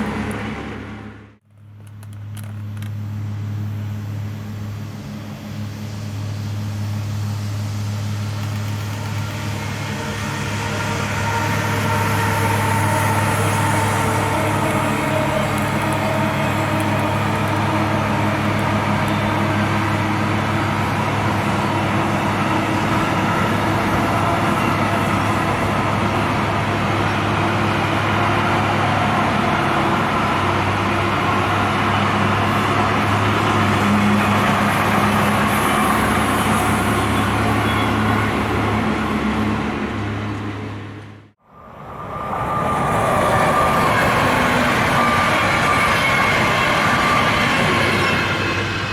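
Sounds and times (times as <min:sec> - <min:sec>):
train passing rumbling: 0:00.0 - 0:48.9.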